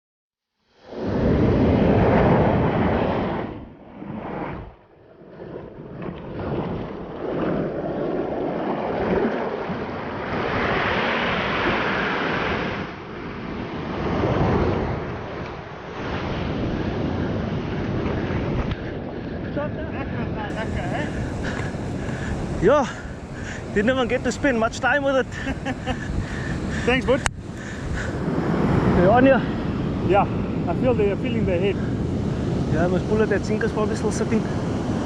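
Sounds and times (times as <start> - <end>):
surf breaking on a beach: 0.7 - 35.0
wind buffeting microphone: 1.0 - 35.0.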